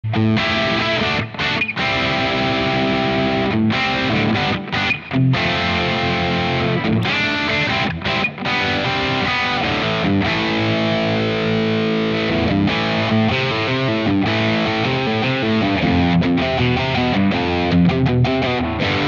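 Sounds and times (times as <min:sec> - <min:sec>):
distorted electric guitar riffing: 0:00.0 - 0:19.0.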